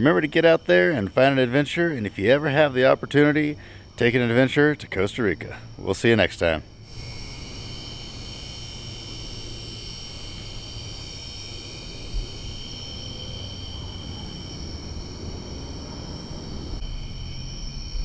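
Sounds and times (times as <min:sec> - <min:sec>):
crickets and insects chirping: 0:00.0 - 0:18.0.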